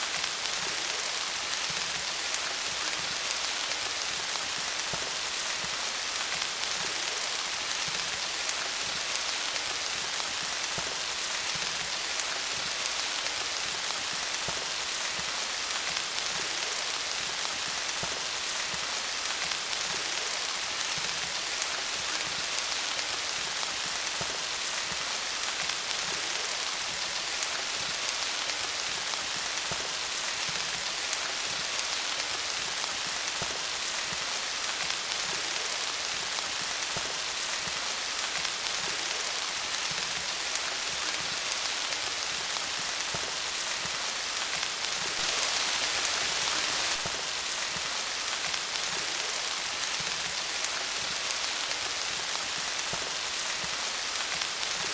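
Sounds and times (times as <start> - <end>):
rain falling on leaves: 0.0 - 54.9.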